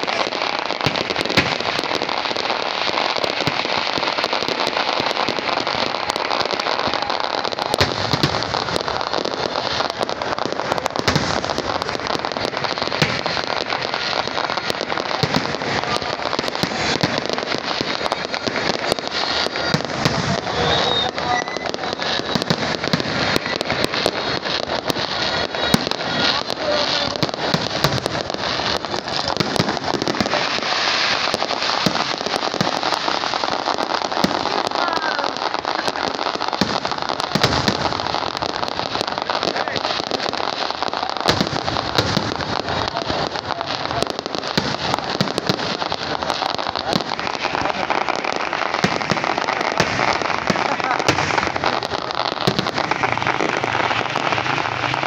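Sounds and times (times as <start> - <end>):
firework bangs: 0.0 - 55.0
fireworks crackling and popping: 0.0 - 55.0.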